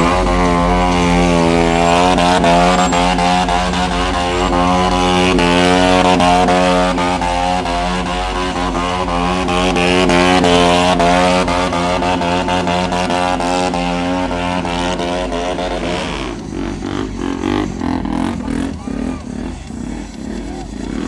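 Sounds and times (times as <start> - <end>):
motorcycle engine revving high: 0.0 - 21.0.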